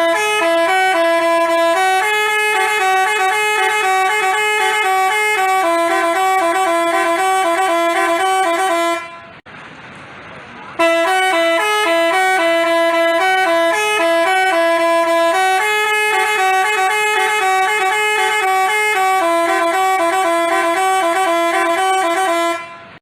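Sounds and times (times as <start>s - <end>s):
musical bus horn melody: 0.0s - 9.4s, 10.8s - 23.0s.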